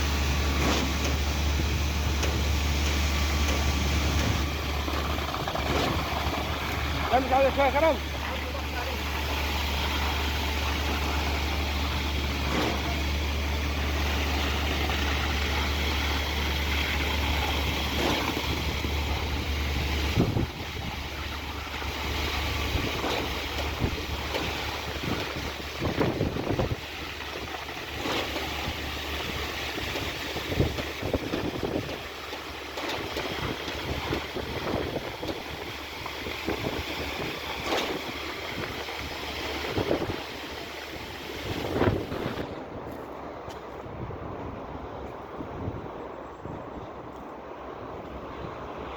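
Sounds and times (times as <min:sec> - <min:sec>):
heavy truck engine running: 0:00.0 - 0:43.8
wind buffeting microphone: 0:00.0 - 0:48.9.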